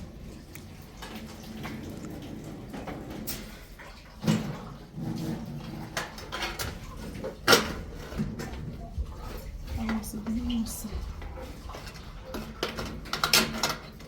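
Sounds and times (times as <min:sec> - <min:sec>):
knocks and clatters of handling: 0:00.6 - 0:14.0.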